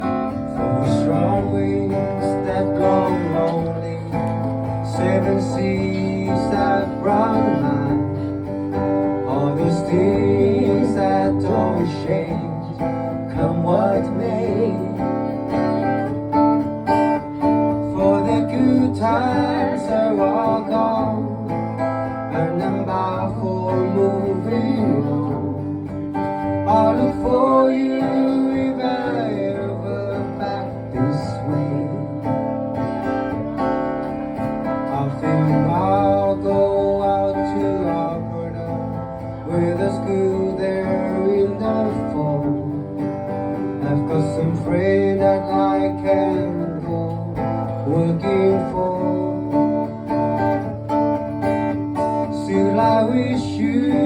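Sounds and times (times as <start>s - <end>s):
strummed acoustic guitar: 0.0s - 54.0s.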